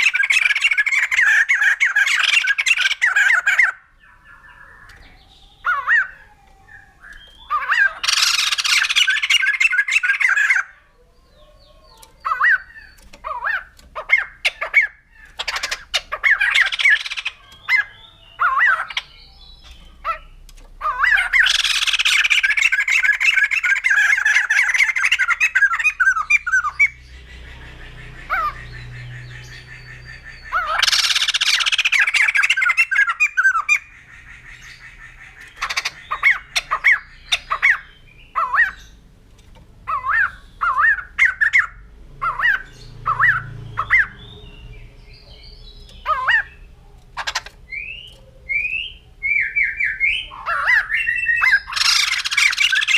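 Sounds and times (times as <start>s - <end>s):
bird rapid jumbled calls: 0.0s - 10.8s, 11.4s - 39.1s, 39.9s - 52.9s.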